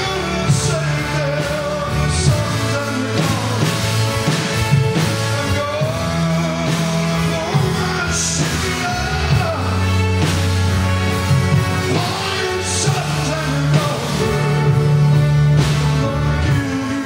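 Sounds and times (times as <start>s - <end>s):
praise band music: 0.0s - 17.0s.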